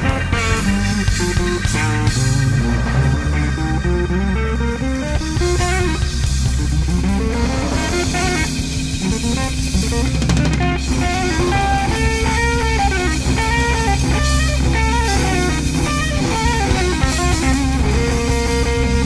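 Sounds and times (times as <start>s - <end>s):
drum kit: 0.0s - 19.0s
electric guitar lead melody: 0.0s - 19.0s
low backing: 0.0s - 19.0s.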